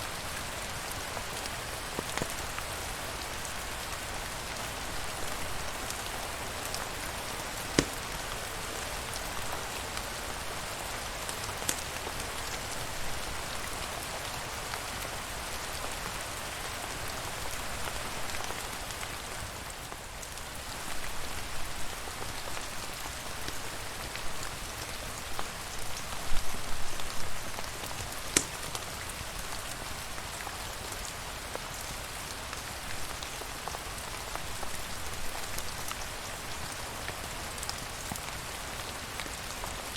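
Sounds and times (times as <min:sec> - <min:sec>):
irregular rain patter: 0:00.0 - 0:39.9
steady rain hiss: 0:00.0 - 0:39.9.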